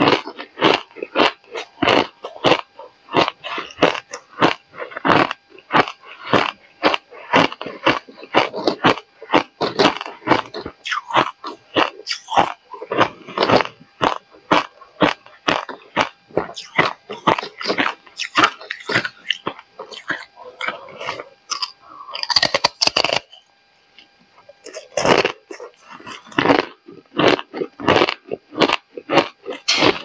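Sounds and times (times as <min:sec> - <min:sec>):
ice being crunched by teeth: 0:00.0 - 0:20.8, 0:21.5 - 0:23.4, 0:24.6 - 0:30.0.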